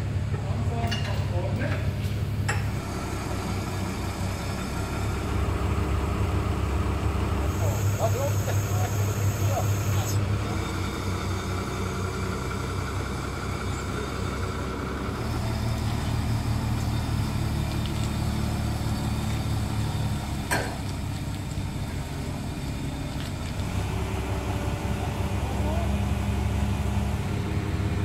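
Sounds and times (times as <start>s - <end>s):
forklift diesel engine running: 1.8s - 28.0s.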